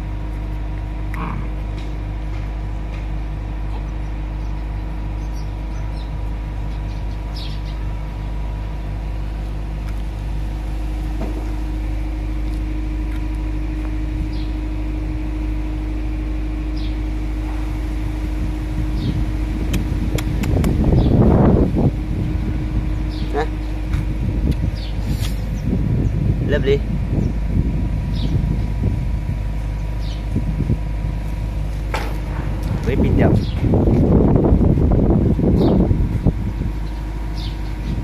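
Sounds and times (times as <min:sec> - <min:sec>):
constant hum: 0:00.0 - 0:38.0
machine droning: 0:00.0 - 0:38.0.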